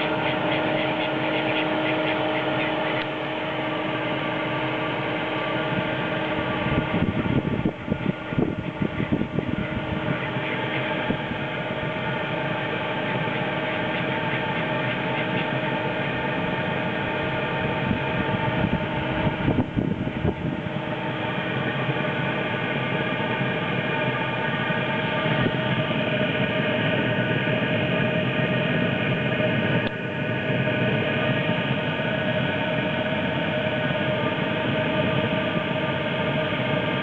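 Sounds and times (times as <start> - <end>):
heater blower whirring: 0.0 - 37.0
humming tones: 0.0 - 37.0.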